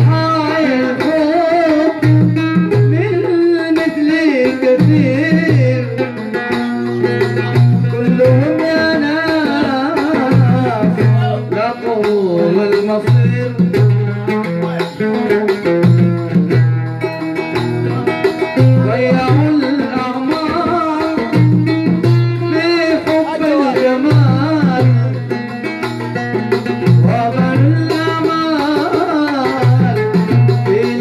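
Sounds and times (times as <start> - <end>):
man singing into a microphone: 0.0 - 16.4, 17.8 - 25.6, 26.8 - 31.0
oud playing: 0.0 - 31.0.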